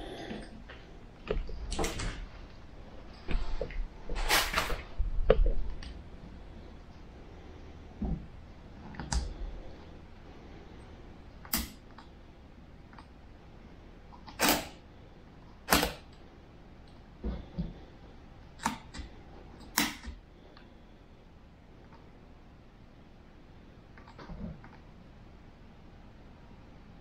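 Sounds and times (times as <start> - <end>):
faint room hiss: 0.0 - 27.0.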